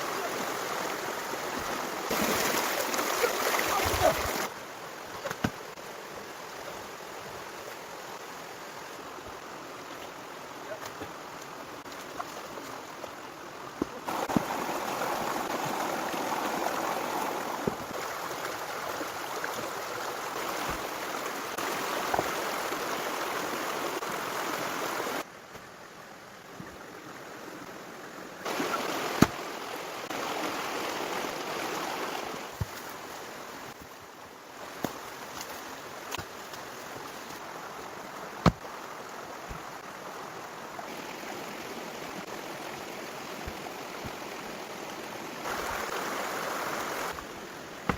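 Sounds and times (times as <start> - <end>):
running water rushing: 0.0 - 47.9.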